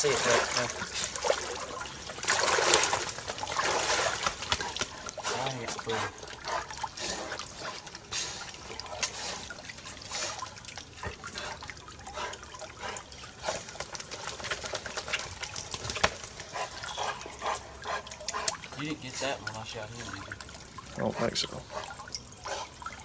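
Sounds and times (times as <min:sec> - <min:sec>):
shallow water splashing: 0:00.0 - 0:23.0.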